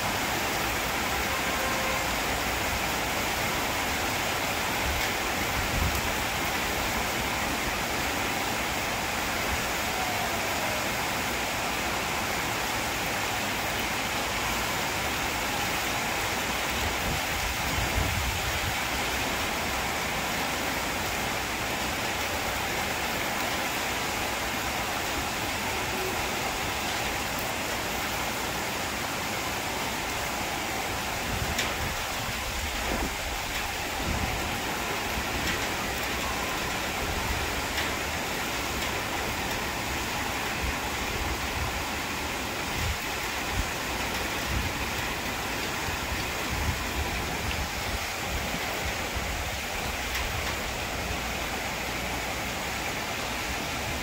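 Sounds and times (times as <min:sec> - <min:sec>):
heavy rain on metal roofing: 0:00.0 - 0:54.0.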